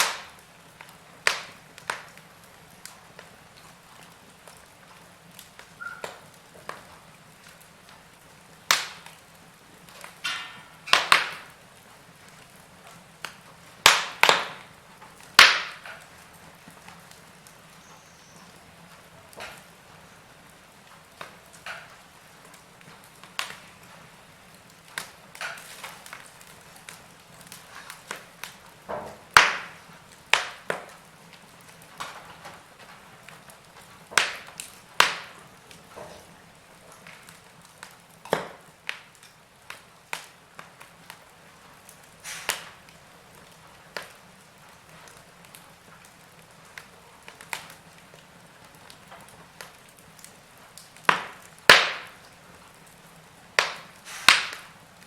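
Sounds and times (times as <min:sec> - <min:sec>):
faint steady hiss: 0:00.0 - 0:55.0
wood fire crackling: 0:00.0 - 0:55.0.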